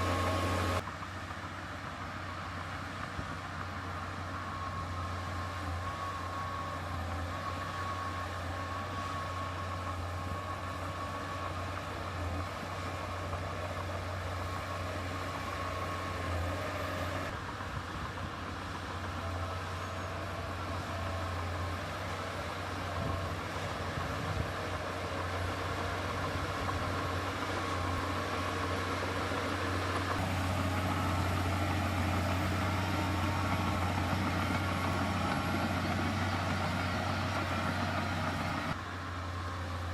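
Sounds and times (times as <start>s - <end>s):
heavy diesel machinery droning: 0.0s - 39.9s.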